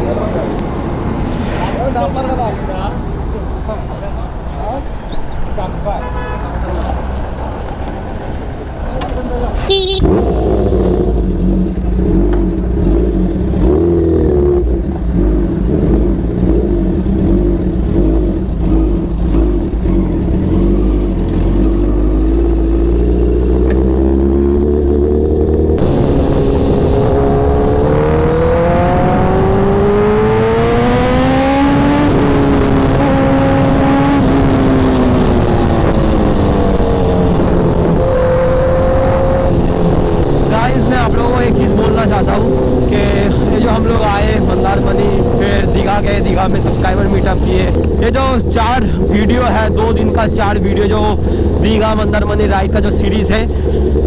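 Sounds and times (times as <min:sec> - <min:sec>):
motorcycle engine revving: 0:09.7 - 0:54.0.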